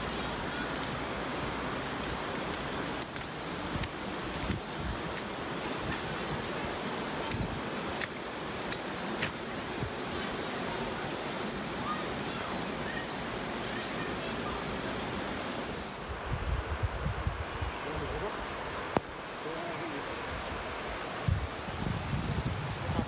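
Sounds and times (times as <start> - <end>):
rushing outdoor ambience: 0.0 - 23.0.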